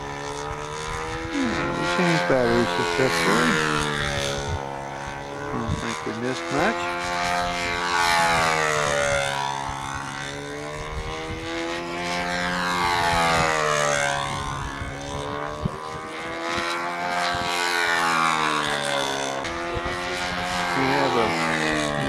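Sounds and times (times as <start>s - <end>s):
small model airplane engine: 0.0s - 22.0s.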